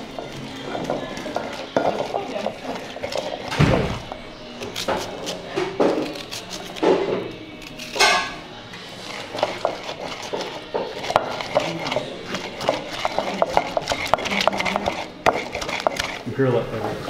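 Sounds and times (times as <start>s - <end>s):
pestle grinding in bowl: 0.0s - 6.9s, 8.9s - 16.3s.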